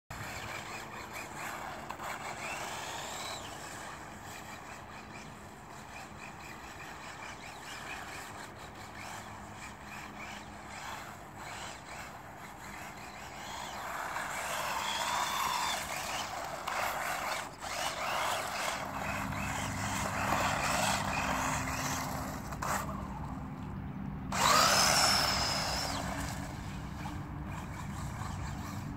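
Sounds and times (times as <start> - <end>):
electric motor whining: 0.1 - 23.5, 24.3 - 28.9.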